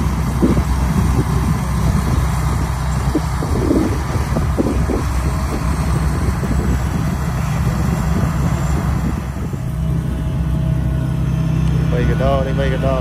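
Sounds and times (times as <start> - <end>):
combine harvester engine drone: 0.0 - 13.0
threshing machinery rushing: 0.0 - 13.0.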